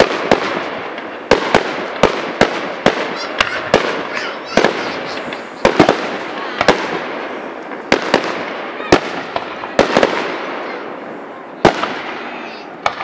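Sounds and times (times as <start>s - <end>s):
fireworks bangs: 0.0s - 13.0s
fireworks crackle: 0.0s - 13.0s.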